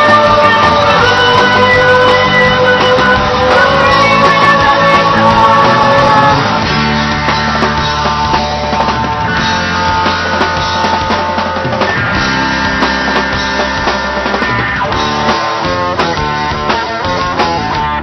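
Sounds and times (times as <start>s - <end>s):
bass: 0.0s - 18.0s
drum kit: 0.0s - 18.0s
electric guitars: 0.0s - 18.0s.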